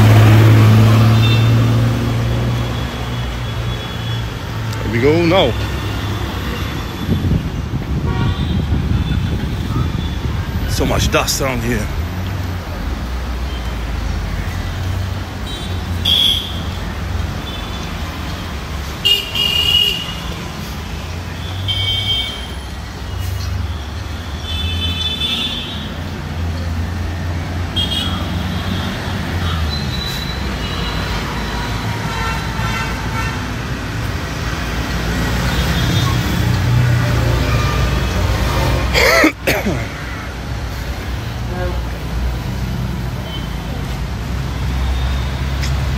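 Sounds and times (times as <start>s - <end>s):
street traffic rumbling: 0.0s - 45.9s.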